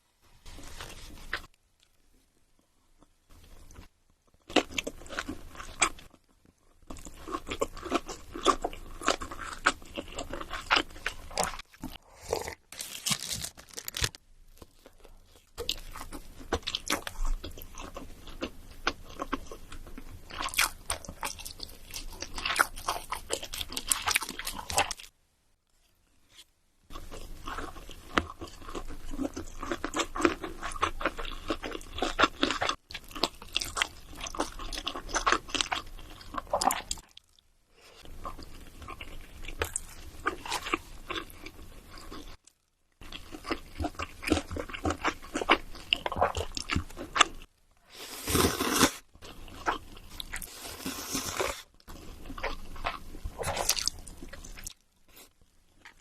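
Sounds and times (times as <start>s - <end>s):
crunchy food chewing: 3.0s - 25.1s, 26.4s - 37.4s, 38.0s - 56.0s.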